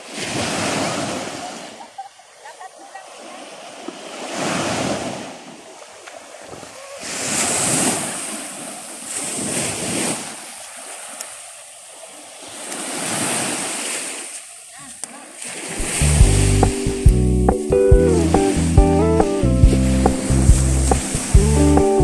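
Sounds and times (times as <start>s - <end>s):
surf washing up a beach: 0.0s - 22.0s.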